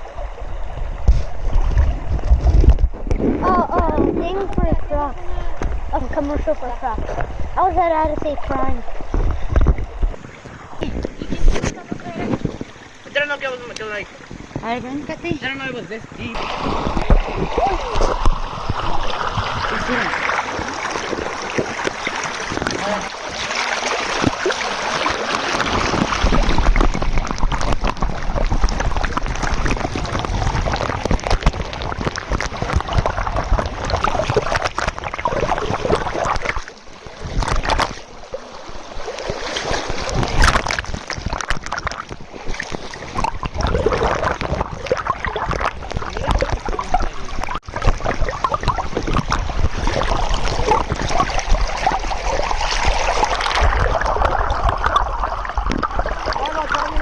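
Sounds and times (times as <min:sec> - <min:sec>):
water splashing and gurgling: 0:00.0 - 0:57.0.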